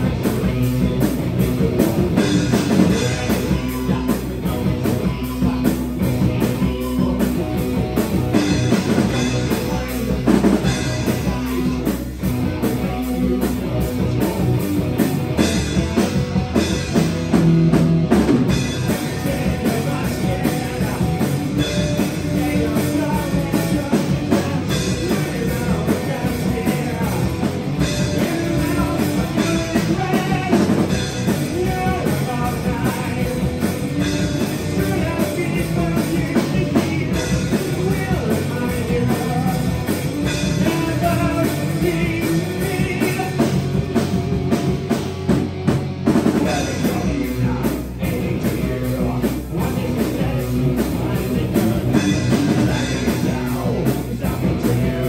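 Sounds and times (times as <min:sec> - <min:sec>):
person singing: 0:00.0 - 0:16.2, 0:18.4 - 0:44.1, 0:46.2 - 0:55.0
live rock band playing: 0:00.0 - 0:55.0.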